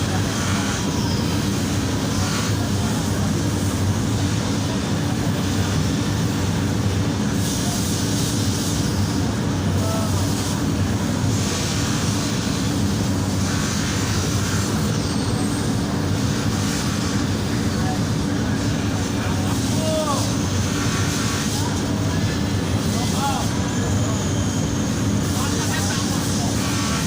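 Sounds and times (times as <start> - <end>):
low mechanical hum: 0.0 - 27.0
rasping hiss: 0.0 - 27.0.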